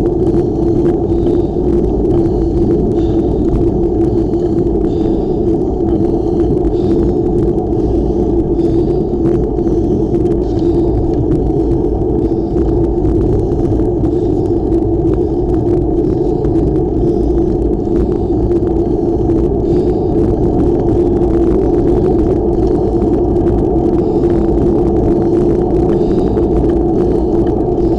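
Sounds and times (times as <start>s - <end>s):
wind noise on microphone: 0.0s - 27.9s.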